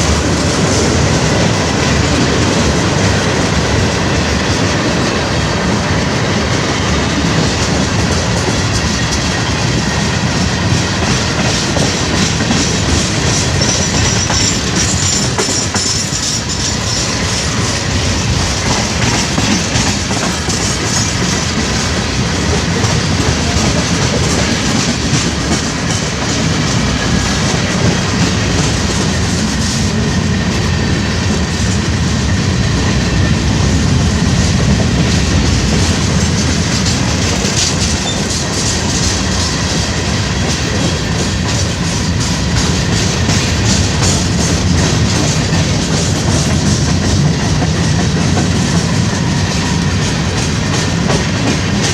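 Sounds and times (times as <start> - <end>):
train wheels clacking on rails: 0.0 - 51.9.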